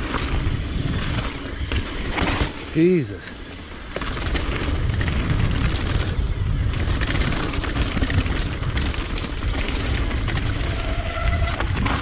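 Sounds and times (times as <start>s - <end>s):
wind rumble on microphone: 0.0s - 2.7s, 3.8s - 12.0s
bike rattling over rocks: 0.0s - 12.0s.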